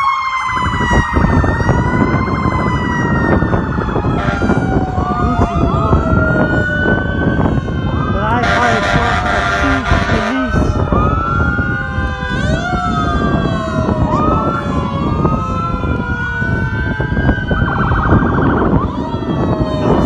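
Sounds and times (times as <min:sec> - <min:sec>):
emergency sirens wailing: 0:00.0 - 0:20.0
low traffic rumble: 0:00.0 - 0:20.0
rapid warbling siren yelp: 0:00.0 - 0:20.0.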